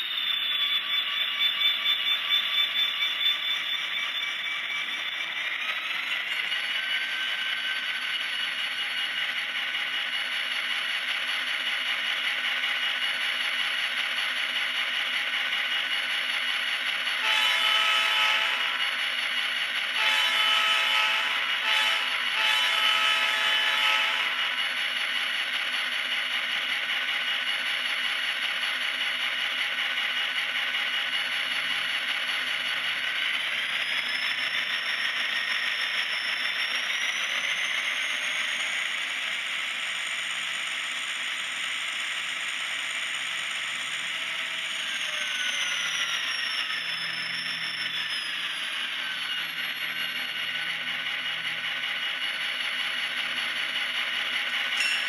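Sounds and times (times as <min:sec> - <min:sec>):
model diesel locomotive engine revving: 0:00.0 - 0:55.0.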